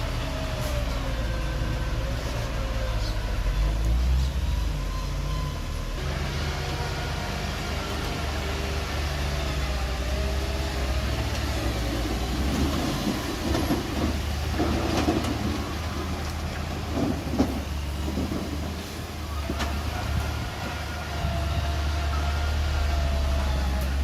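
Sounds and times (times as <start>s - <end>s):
bulldozer diesel engine humming: 0.0s - 24.0s.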